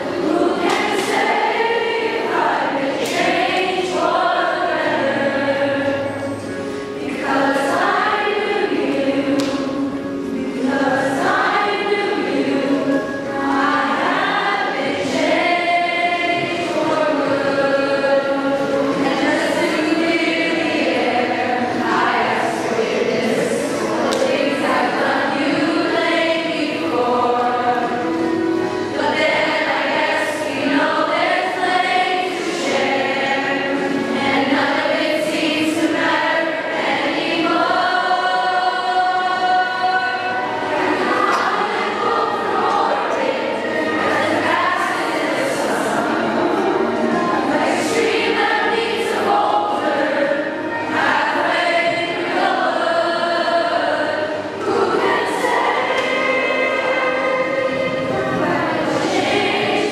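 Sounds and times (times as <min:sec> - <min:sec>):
choir singing: 0:00.0 - 0:59.9.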